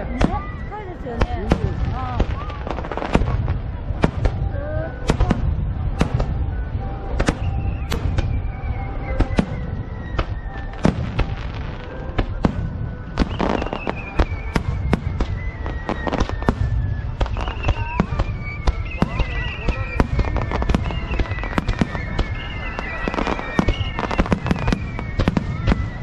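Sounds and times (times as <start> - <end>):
low rumble: 0.0 - 23.6
fireworks crackling: 0.0 - 26.0.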